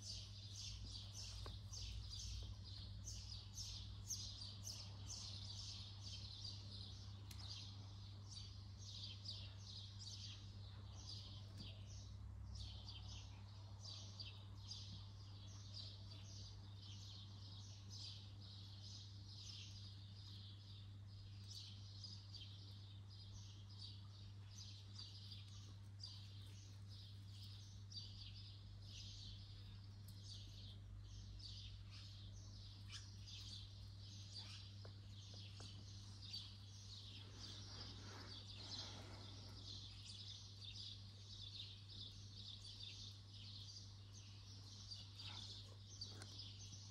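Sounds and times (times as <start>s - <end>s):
small birds chirping: 0.0s - 46.9s
steady low hum: 0.0s - 46.9s.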